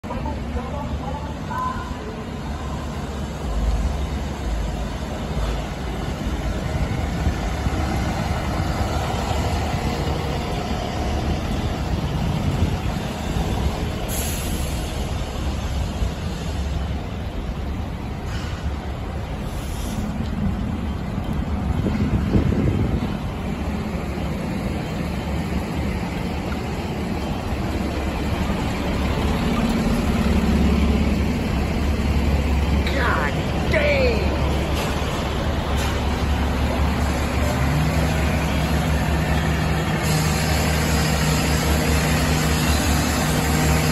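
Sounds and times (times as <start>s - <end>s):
diesel engine rumbling: 0.0s - 43.9s.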